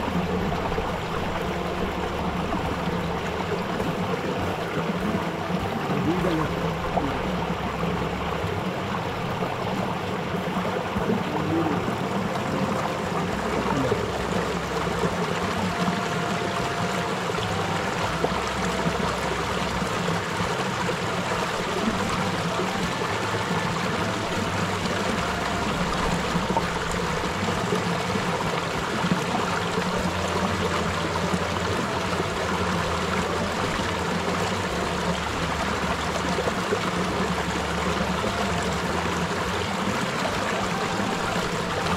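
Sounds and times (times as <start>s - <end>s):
stream flowing over rocks: 0.0s - 41.9s.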